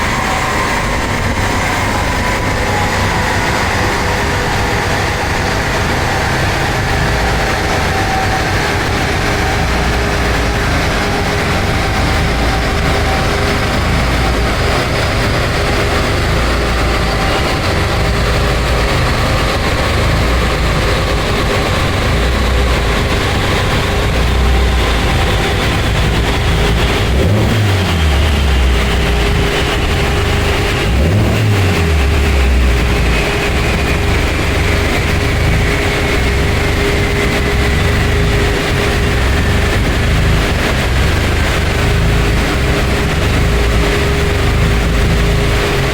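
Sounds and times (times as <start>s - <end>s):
car engine running on dyno: 0.0s - 45.9s
low engine surges: 0.0s - 45.9s.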